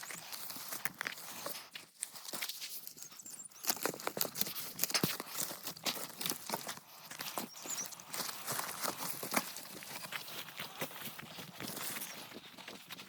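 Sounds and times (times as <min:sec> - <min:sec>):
dry brush rustling and crackling: 0:00.0 - 0:13.0.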